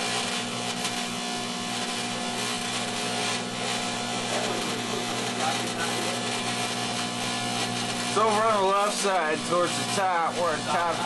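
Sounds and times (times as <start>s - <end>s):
crackling electrical arcing: 0.0s - 11.0s
microwave oven humming: 0.0s - 11.0s.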